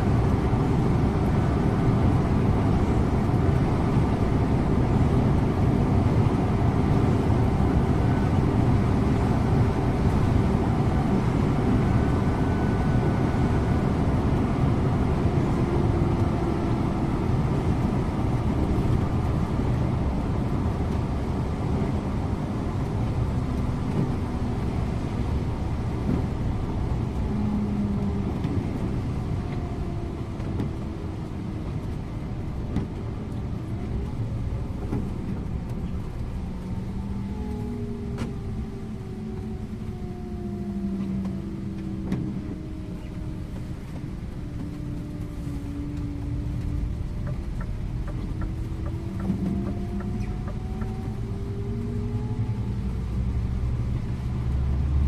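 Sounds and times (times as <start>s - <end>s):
coach engine and road rumble: 0.0s - 55.0s.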